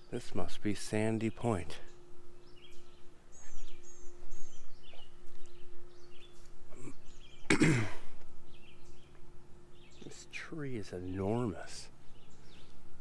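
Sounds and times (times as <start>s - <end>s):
low steady hum: 0.0s - 13.0s
songbirds calling: 0.0s - 13.0s.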